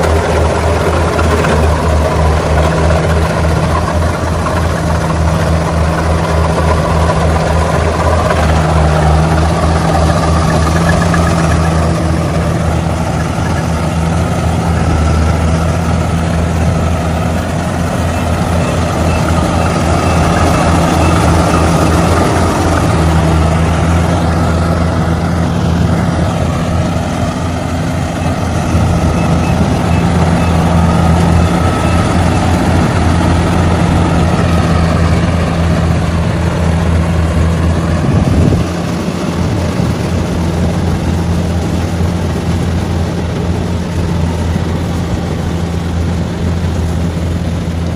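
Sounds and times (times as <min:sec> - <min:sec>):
diesel engine hum: 0:00.0 - 0:47.9.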